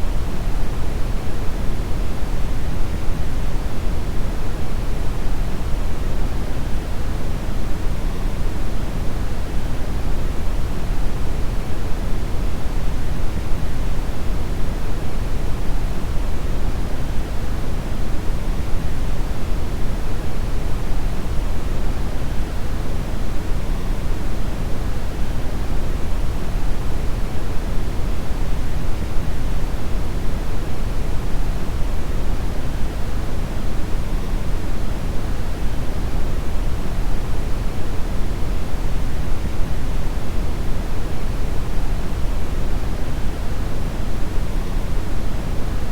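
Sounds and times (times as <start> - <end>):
brown noise hiss: 0.0 - 45.9.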